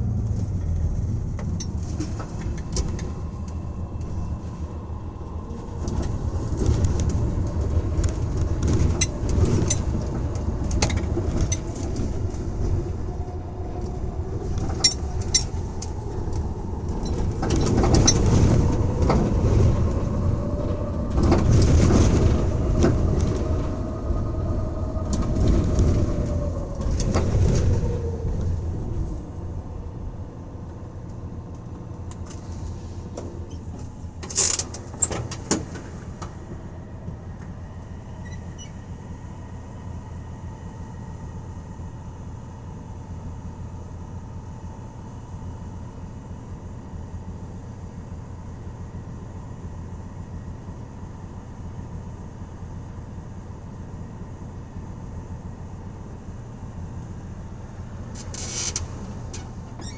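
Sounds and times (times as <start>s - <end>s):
van engine droning while driving: 0.0s - 59.9s.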